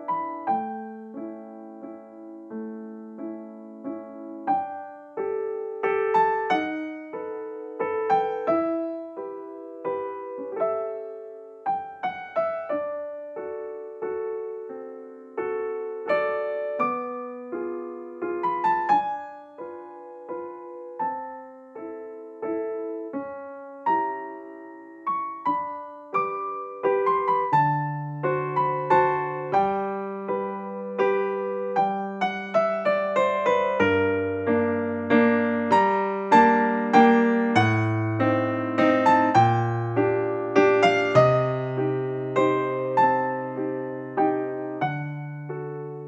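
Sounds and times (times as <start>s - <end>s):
solo piano melody: 0.0s - 46.0s.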